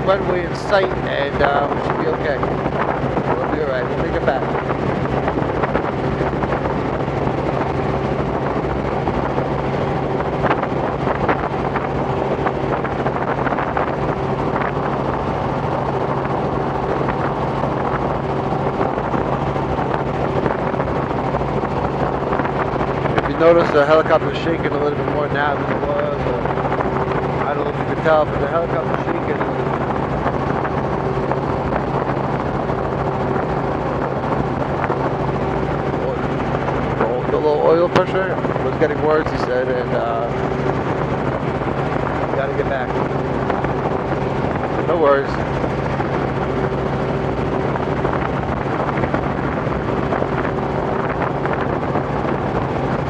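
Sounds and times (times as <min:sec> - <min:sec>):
helicopter engine and rotor drone: 0:00.0 - 0:53.0
wind noise on microphone: 0:00.0 - 0:53.0.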